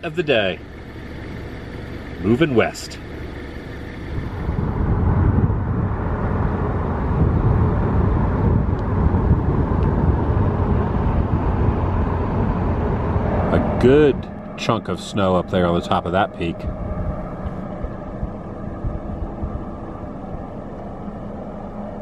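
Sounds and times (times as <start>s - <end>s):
road and wind noise: 0.0s - 22.0s.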